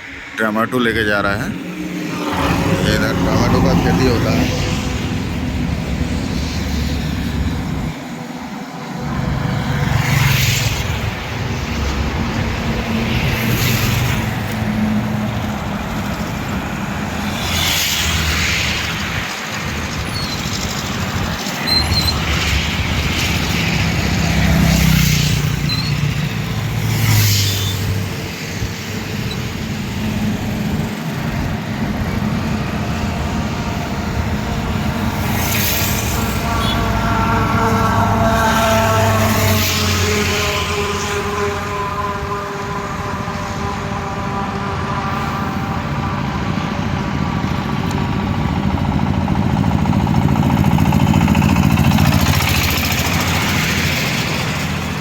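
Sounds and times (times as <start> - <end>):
vehicles swishing by: 0.0 - 55.0
truck engines running low: 0.2 - 55.0.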